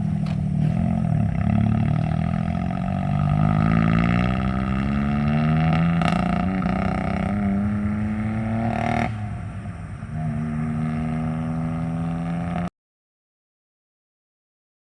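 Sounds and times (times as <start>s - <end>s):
car engine under throttle: 0.0s - 12.7s.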